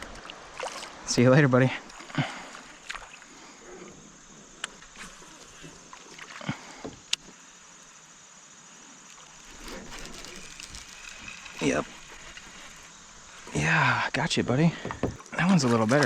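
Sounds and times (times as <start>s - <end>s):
quiet river background: 0.0s - 16.0s.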